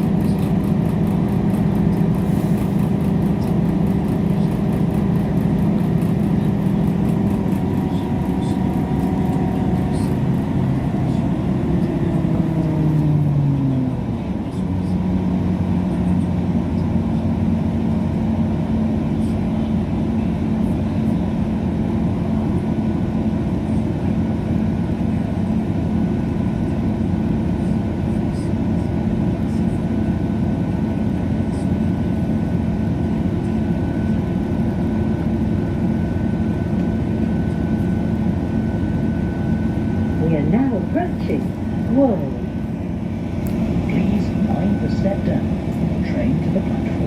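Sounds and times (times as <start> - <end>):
train engine hum: 0.0 - 47.0
train rumble from on board: 0.0 - 47.0.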